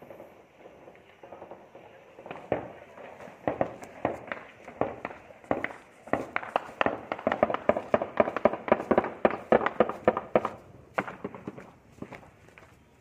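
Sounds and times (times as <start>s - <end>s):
rapid gunfire: 0.0s - 11.6s.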